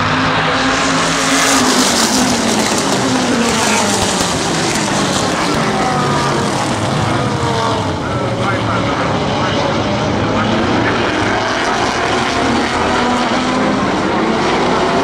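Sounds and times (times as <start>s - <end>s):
loud rushing noise: 0.0s - 15.0s
racing car engines at high revs: 0.0s - 15.0s.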